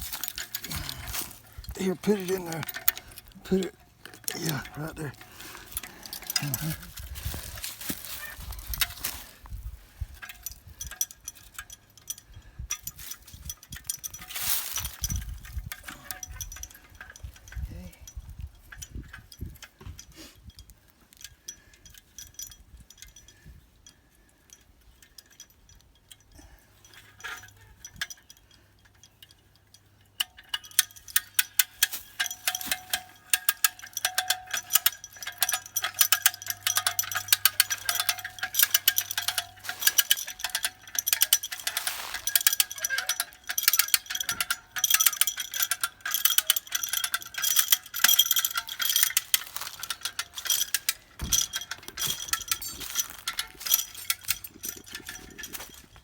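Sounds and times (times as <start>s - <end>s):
metallic ratchet clicks: 0.0s - 9.3s, 10.0s - 56.0s.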